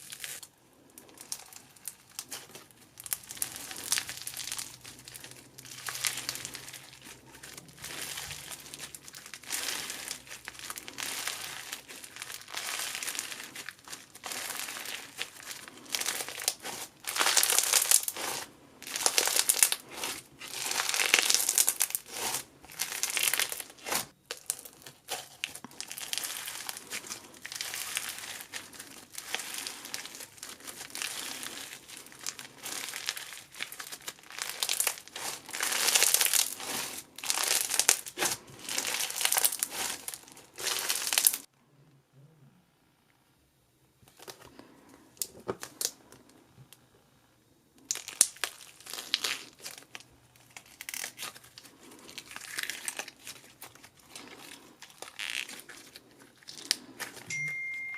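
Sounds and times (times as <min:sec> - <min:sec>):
slime squishing and crackling: 0:00.0 - 0:41.5, 0:45.2 - 0:46.3, 0:47.8 - 0:57.3.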